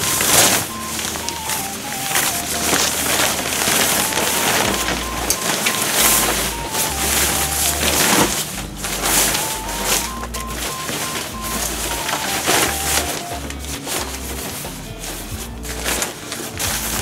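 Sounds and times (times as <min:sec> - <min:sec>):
background music with bass: 0:00.0 - 0:17.0
fabric cover rustling: 0:00.0 - 0:17.0.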